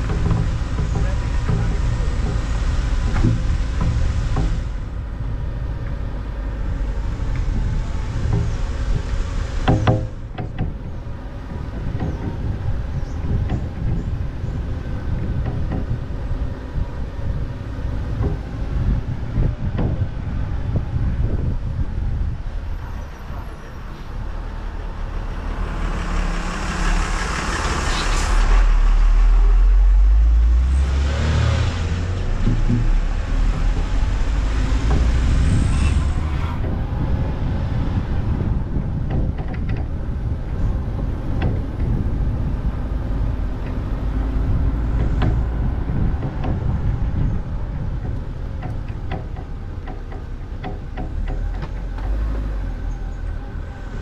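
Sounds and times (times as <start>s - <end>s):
wind buffeting microphone: 0.0s - 28.6s, 29.4s - 54.0s
car engine and road noise: 0.0s - 54.0s.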